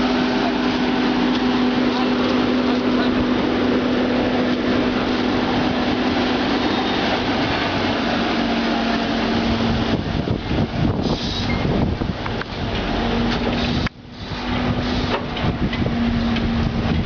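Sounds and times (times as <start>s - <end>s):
road and body noise: 0.0s - 17.0s
trolleybus electrical hum: 0.0s - 17.0s.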